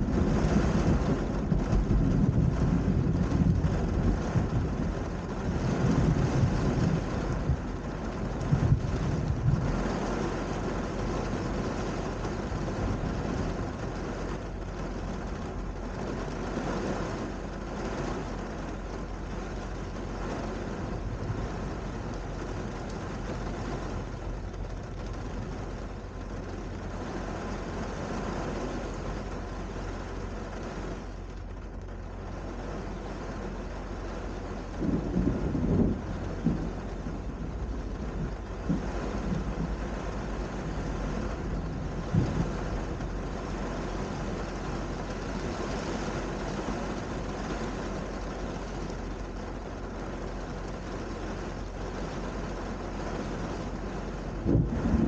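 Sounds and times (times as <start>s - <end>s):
steady rain: 0.0s - 55.0s
thunder rumbling: 0.0s - 55.0s.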